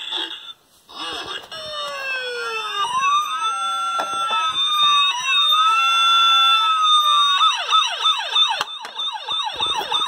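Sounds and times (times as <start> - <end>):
toy fire truck siren: 0.9 - 10.0.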